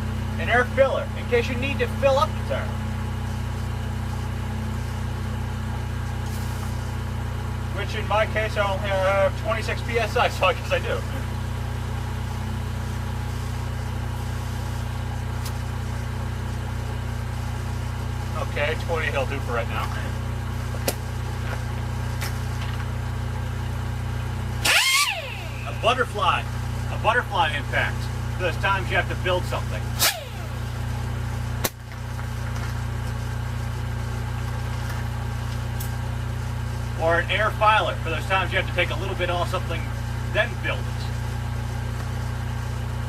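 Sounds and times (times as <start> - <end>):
air compressor running: 0.0 - 43.0
car engine idling: 0.0 - 43.0.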